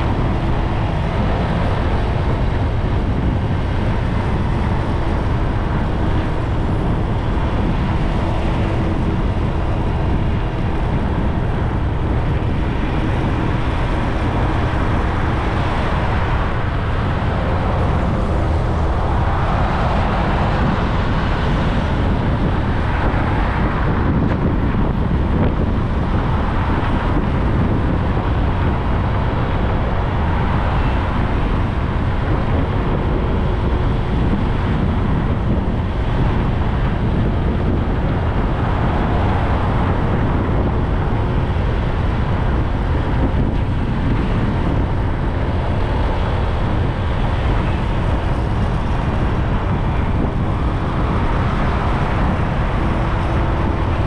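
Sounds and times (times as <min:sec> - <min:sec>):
traffic and road noise: 0:00.0 - 0:54.0
wind buffeting microphone: 0:00.0 - 0:54.0.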